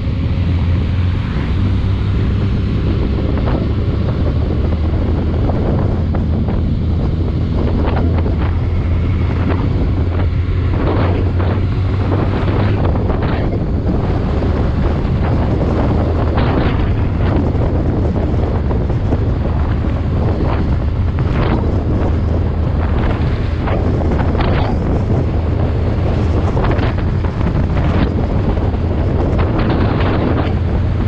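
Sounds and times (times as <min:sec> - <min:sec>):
steady low drone: 0:00.0 - 0:31.0
wind buffeting microphone: 0:00.0 - 0:31.0.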